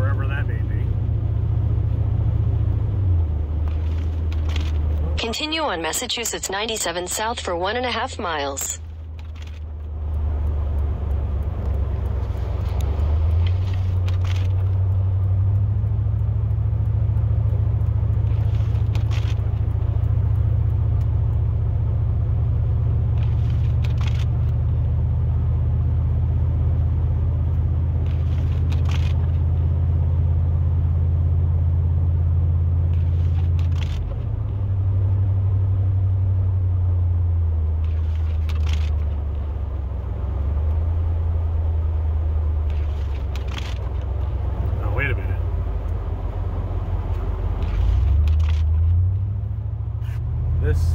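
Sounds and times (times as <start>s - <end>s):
truck engine and road noise: 0.0s - 50.9s.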